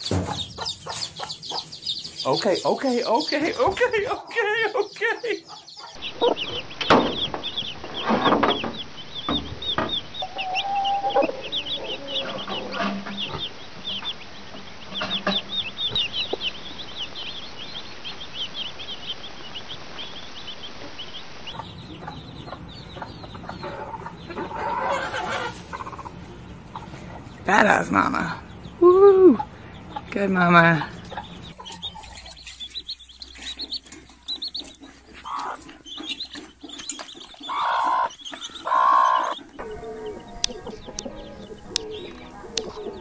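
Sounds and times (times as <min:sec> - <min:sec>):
hen clucking: 0:00.0 - 0:19.7, 0:20.6 - 0:43.0
chickens calling: 0:00.0 - 0:43.0
chicks peeping: 0:00.0 - 0:43.0.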